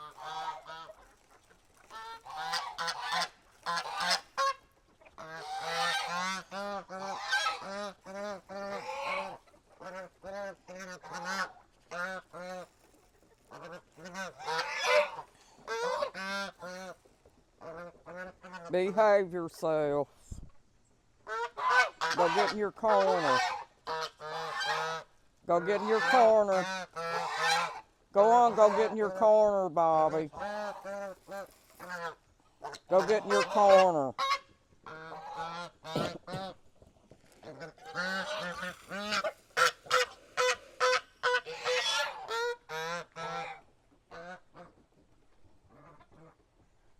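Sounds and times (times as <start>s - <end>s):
geese honking: 0.0s - 19.3s, 21.2s - 36.6s, 37.3s - 44.8s.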